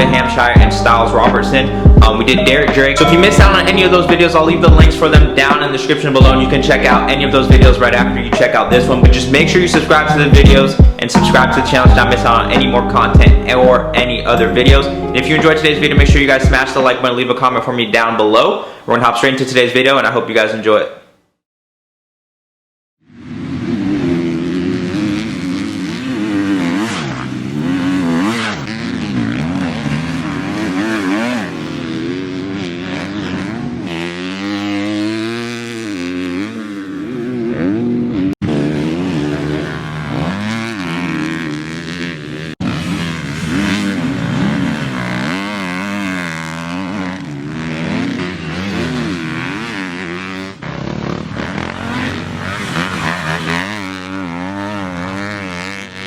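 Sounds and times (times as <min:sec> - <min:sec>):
motocross bike engine revving: 0:00.0 - 0:13.8, 0:23.1 - 0:56.0.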